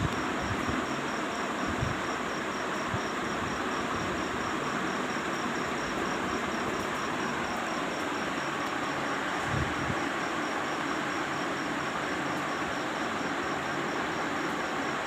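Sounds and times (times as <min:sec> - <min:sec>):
fan whooshing hiss: 0:00.0 - 0:15.0.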